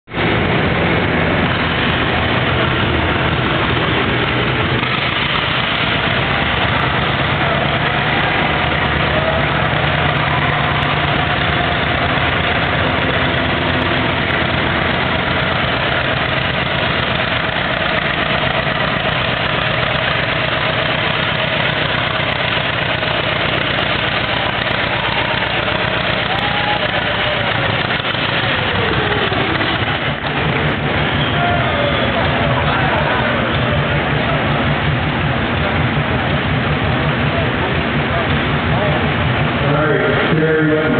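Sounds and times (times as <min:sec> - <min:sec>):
tractor engine under heavy load: 0:00.0 - 0:40.9.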